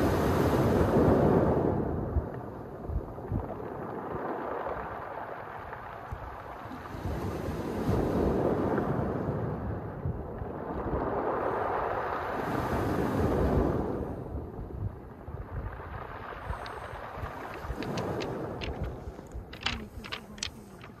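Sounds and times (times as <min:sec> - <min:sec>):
waves on pebble beach: 0:00.0 - 0:02.0, 0:03.6 - 0:09.7, 0:10.5 - 0:14.4, 0:15.2 - 0:21.0.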